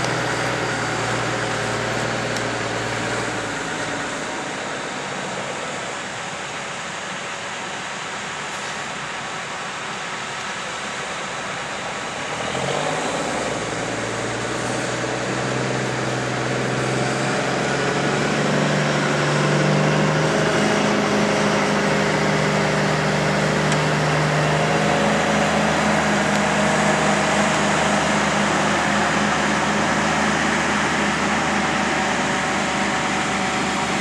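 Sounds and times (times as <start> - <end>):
harvest machinery hum: 0.0 - 34.0
truck diesel engine: 0.0 - 34.0.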